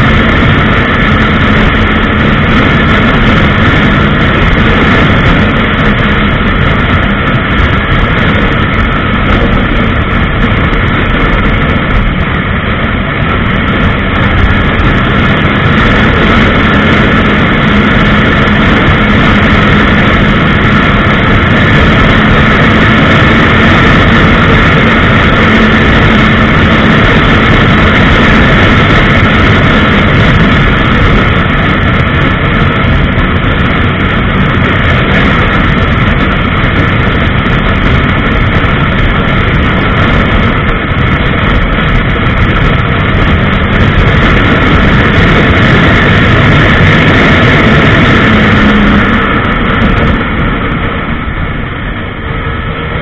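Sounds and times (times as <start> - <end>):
loud wind rush: 0.0 - 53.0
motorcycle engine cruising: 0.0 - 53.0.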